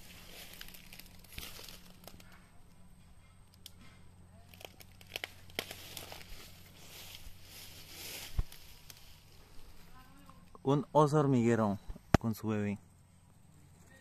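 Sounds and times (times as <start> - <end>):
grass and leaves rustling: 0.0 - 14.0.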